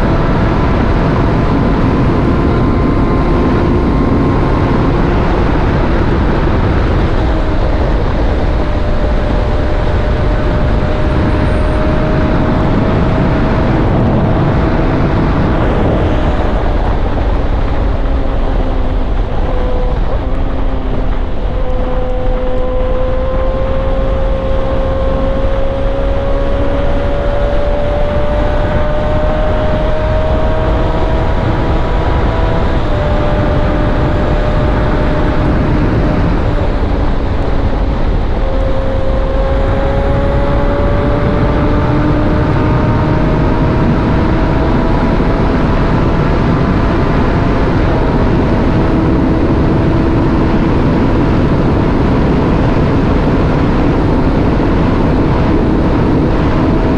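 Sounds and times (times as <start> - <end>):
wind rush: 0.0 - 56.9.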